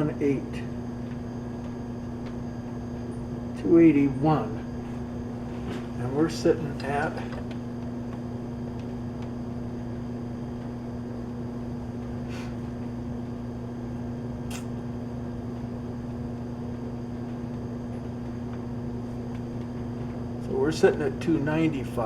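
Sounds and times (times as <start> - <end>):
electrical hum of machinery: 0.0 - 22.0.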